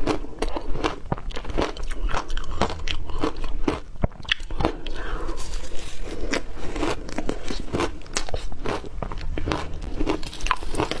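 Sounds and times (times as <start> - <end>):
ice crunching between teeth: 0.0 - 11.0.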